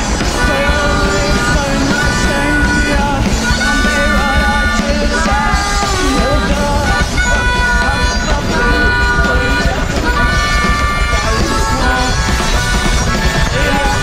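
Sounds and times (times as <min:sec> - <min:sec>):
drums: 0:00.0 - 0:14.0
person singing into a microphone: 0:00.0 - 0:14.0
pulsing low end: 0:00.0 - 0:14.0
wavering pitched lines: 0:00.0 - 0:14.0.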